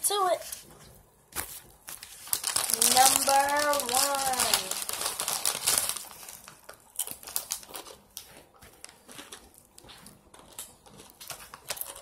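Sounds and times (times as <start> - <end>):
plastic chip bag crinkling: 1.4 - 12.0.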